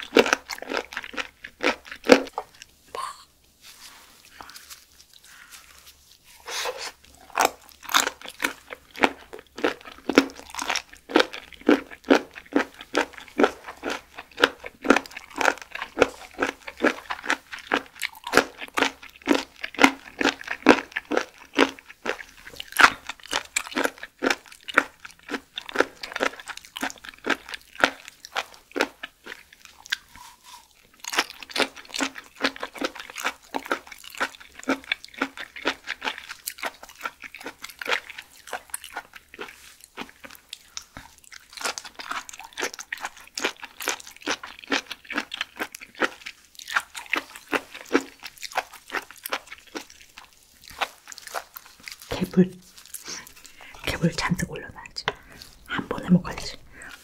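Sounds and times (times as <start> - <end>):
crunchy chewing of shellfish: 0.0 - 2.8, 3.8 - 57.0.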